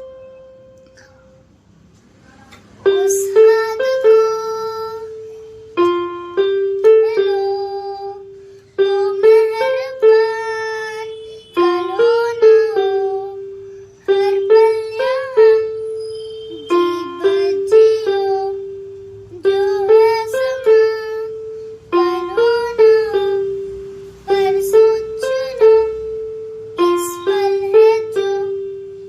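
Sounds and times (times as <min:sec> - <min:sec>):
electronic keyboard melody: 0:00.0 - 0:01.6, 0:02.7 - 0:29.0.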